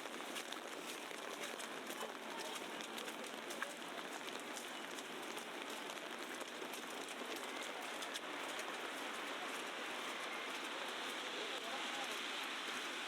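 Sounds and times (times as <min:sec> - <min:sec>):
wet snow pattering on street: 0:00.0 - 0:13.0.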